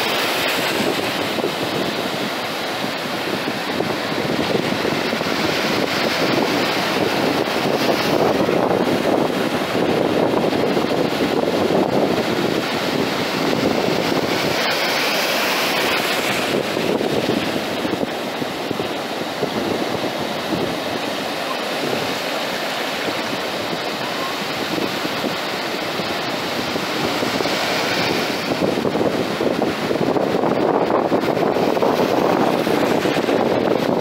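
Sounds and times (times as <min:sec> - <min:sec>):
small waves breaking on shore: 0:00.0 - 0:34.0.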